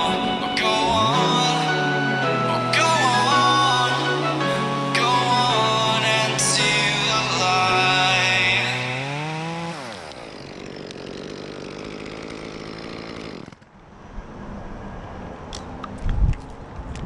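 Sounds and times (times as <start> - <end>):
chainsaw running and idling: 0.0 - 13.7.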